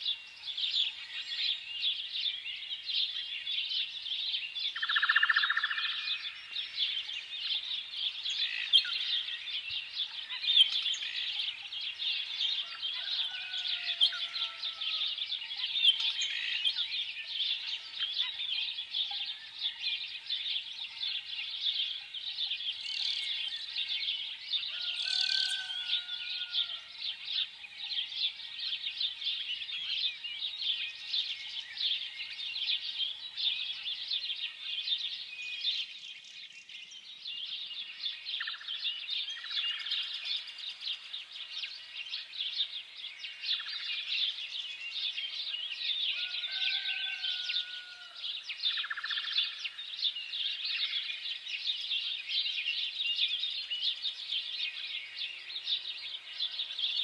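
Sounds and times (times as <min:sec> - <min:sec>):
small birds twittering chorus: 0:00.0 - 0:57.0.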